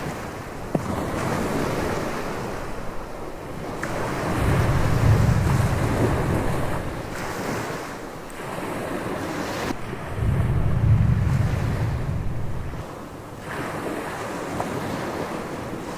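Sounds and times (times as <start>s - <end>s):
surf breaking on beach: 0.0s - 15.9s
wind buffeting microphone: 0.0s - 15.9s.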